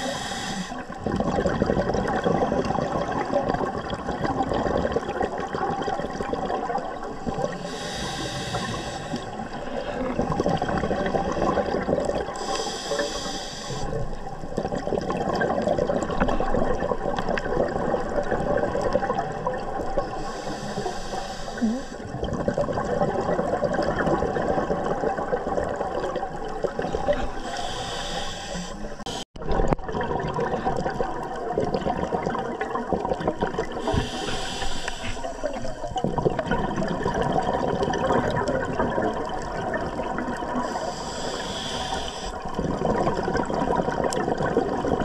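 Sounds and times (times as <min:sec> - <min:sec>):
diver exhaling bubbles: 0:00.0 - 0:28.6, 0:29.4 - 0:45.0
underwater rushing water: 0:00.0 - 0:45.0.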